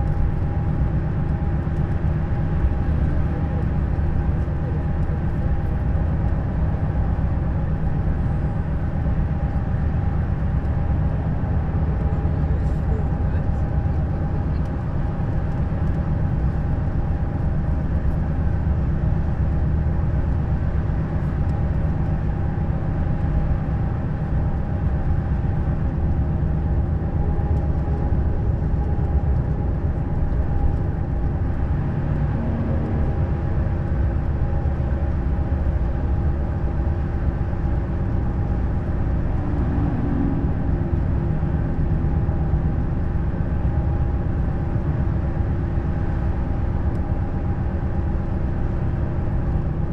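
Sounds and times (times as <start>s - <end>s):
coach engine and road rumble: 0.0s - 49.9s.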